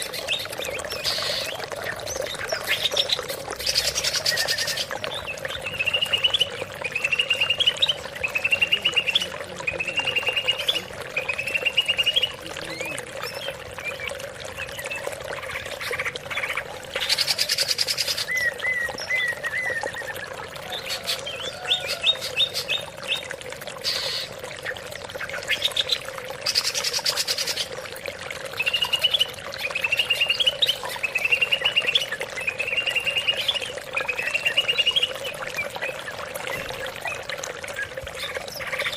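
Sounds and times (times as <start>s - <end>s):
bird song trilled phrases: 0.0s - 27.8s, 28.5s - 38.9s.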